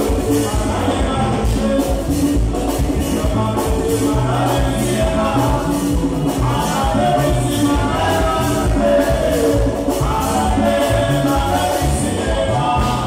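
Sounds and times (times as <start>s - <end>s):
congas and hand drums: 0.0s - 13.0s
latin dance band playing: 0.0s - 13.0s
man singing lead: 0.0s - 13.0s.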